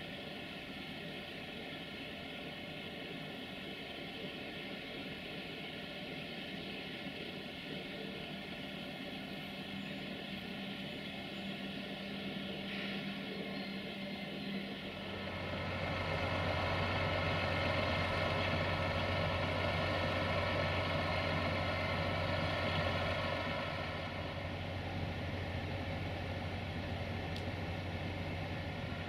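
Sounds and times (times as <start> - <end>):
diesel engine humming: 0.0 - 29.0.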